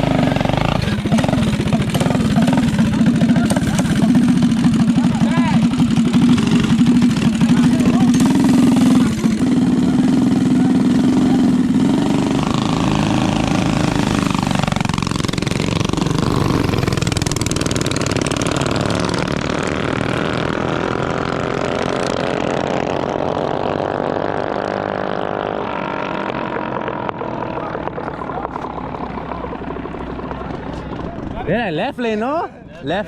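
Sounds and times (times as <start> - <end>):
mini bike engines revving: 0.0 - 32.0.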